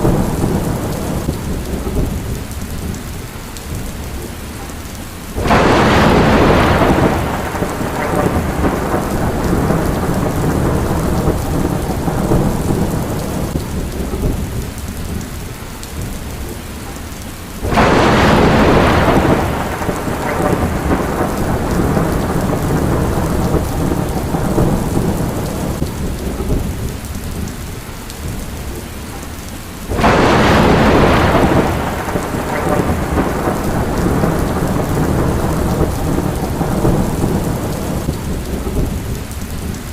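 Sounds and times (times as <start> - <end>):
thunderclaps rolling into rumble: 0.0 - 4.2, 5.3 - 15.4, 17.6 - 27.6, 29.9 - 39.9
heavy rain: 0.0 - 39.9.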